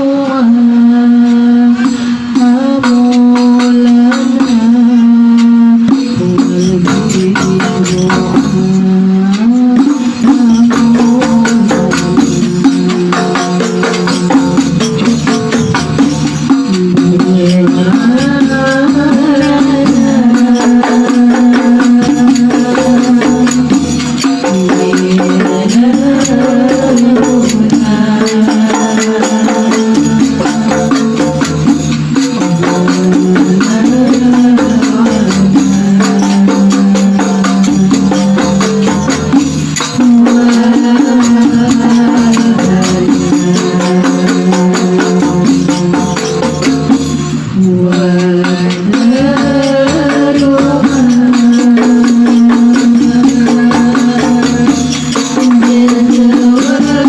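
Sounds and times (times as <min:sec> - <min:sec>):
person singing devotional melody: 0:00.0 - 0:57.0
frame drums beating: 0:00.3 - 0:57.0.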